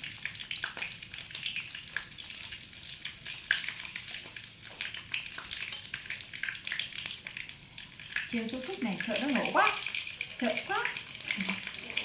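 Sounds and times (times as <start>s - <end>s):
oil popping and crackling: 0.0s - 12.0s
sausages sizzling in a pan: 0.0s - 12.0s.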